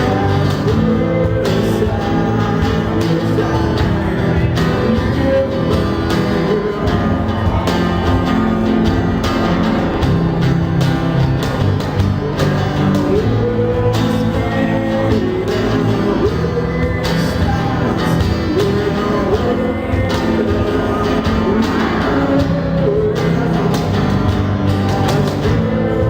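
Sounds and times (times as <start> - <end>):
cajon beat: 0.0 - 26.0
person singing: 0.0 - 26.0
strummed acoustic guitars: 0.0 - 26.0.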